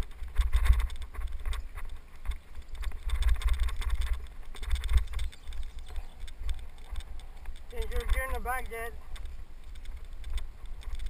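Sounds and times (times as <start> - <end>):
bike tyres rolling on dirt: 0.0 - 11.0
wind buffeting microphone: 0.0 - 11.0.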